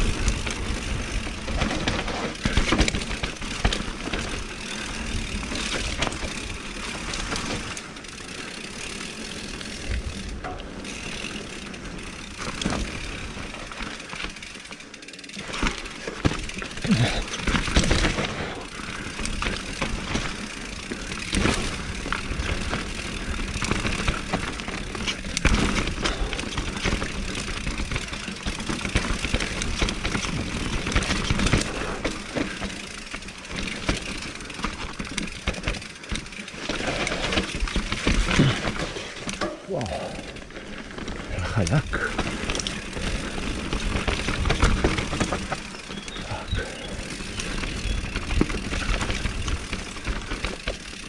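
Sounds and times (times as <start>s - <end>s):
bike knocking and rattling: 0.0s - 51.0s
bike tyres rolling on dirt: 0.0s - 51.0s.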